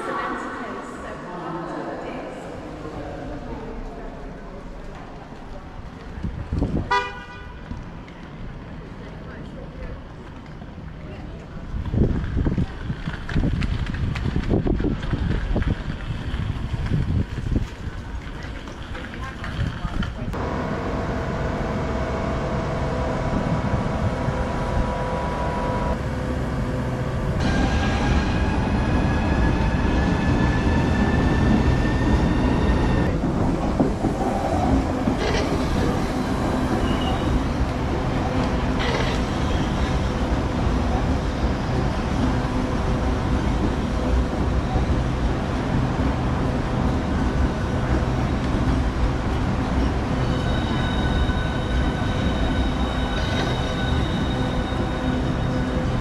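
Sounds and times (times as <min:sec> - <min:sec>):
electric train rumbling on rails: 0:00.0 - 0:56.0.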